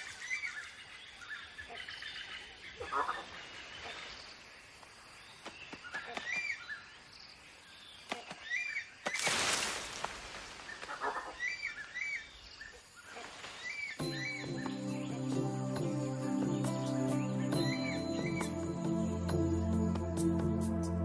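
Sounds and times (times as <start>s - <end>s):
bird chirping: 0.0s - 9.3s, 10.7s - 21.0s.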